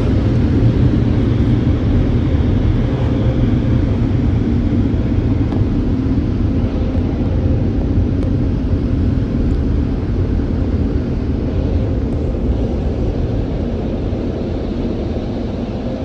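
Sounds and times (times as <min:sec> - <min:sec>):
car wash dryer blowers: 0:00.0 - 0:16.0.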